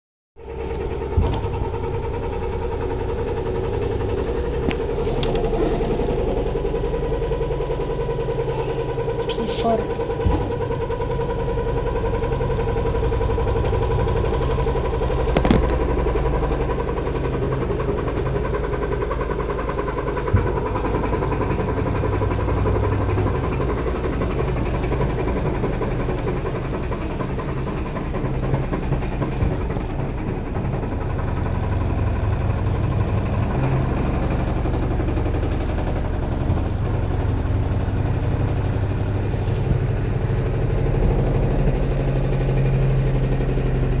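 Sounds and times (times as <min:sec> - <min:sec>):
washing machine motor hum: 0:00.4 - 0:44.0.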